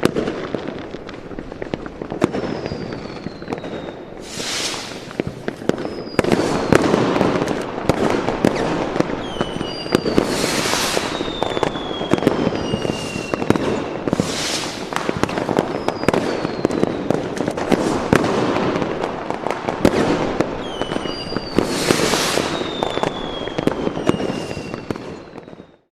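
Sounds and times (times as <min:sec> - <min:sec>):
crackling bursts: 0:00.0 - 0:25.4
fireworks cracks and bangs: 0:00.0 - 0:25.9
firework whistles gliding down: 0:02.2 - 0:18.9, 0:19.9 - 0:25.9.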